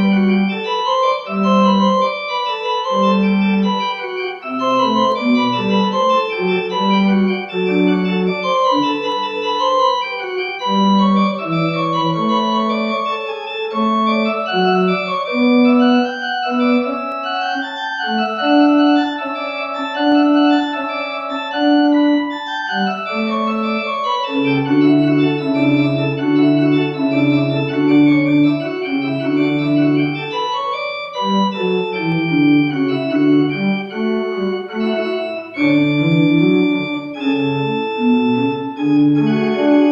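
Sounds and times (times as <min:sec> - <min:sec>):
organ playing: 0:00.0 - 0:39.9.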